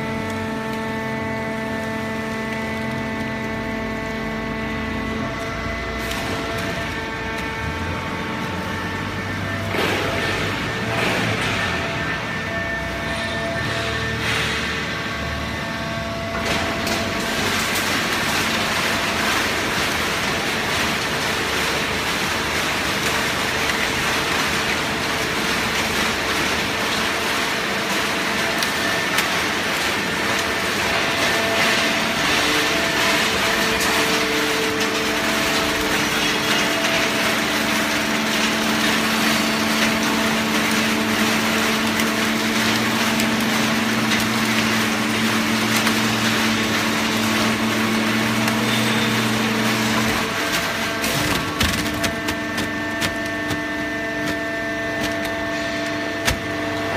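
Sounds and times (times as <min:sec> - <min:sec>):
baling press machine din: 0:00.0 - 0:56.9.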